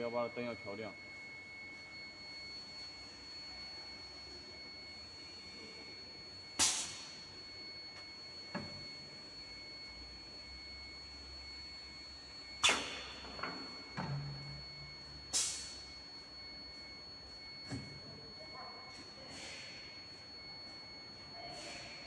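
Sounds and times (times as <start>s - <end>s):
machine hum and high whine: 0.0s - 22.0s.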